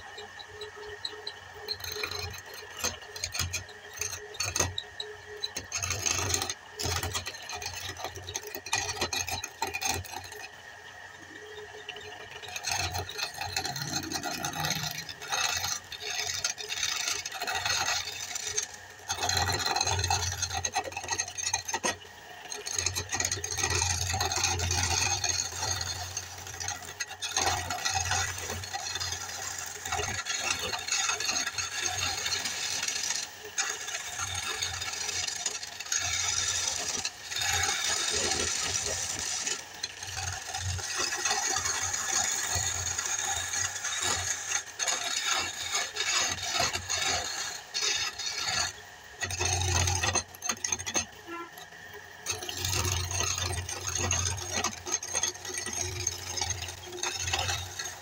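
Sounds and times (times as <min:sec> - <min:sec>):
lathe tool scraping wood: 0:00.0 - 0:58.0.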